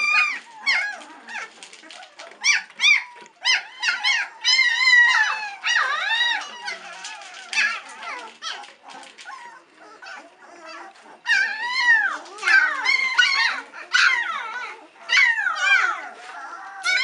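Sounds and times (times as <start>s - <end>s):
puppies whining and crying: 0.0s - 17.0s.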